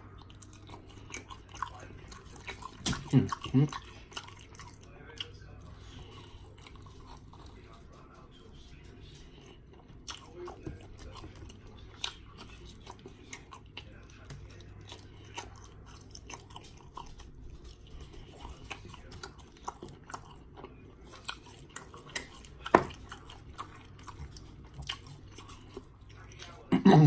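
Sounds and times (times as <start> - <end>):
chewing and smacking: 0.0 - 26.8.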